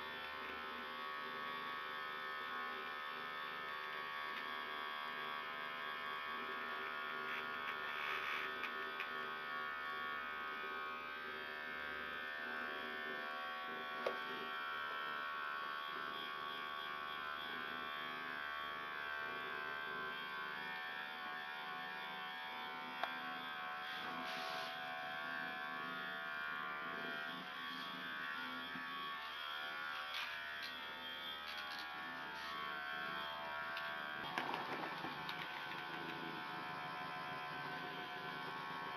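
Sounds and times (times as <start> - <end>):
massager motor buzzing: 0.0 - 38.9.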